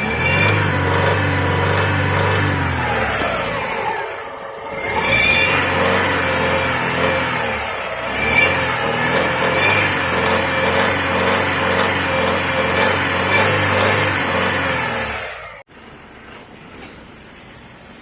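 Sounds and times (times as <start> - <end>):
car engine running: 0.0 - 17.4.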